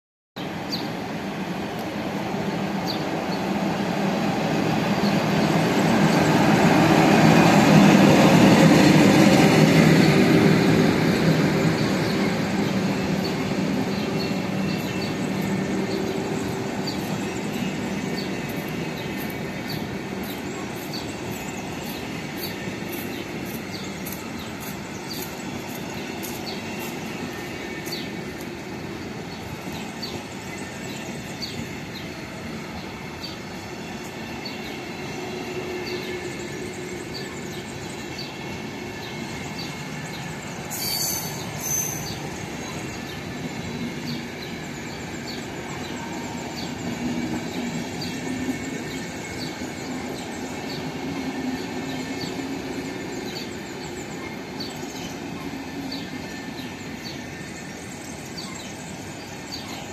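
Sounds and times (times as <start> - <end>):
train rumbling past: 0.4 - 59.9.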